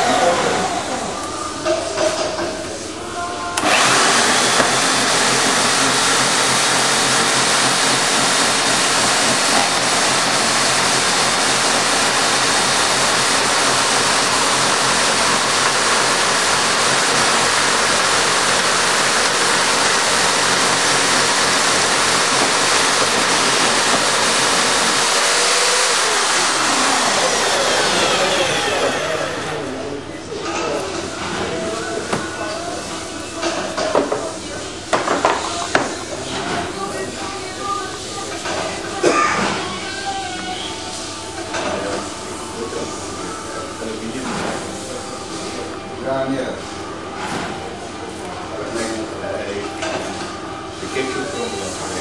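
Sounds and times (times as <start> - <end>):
milling machine running: 0.0 - 52.0.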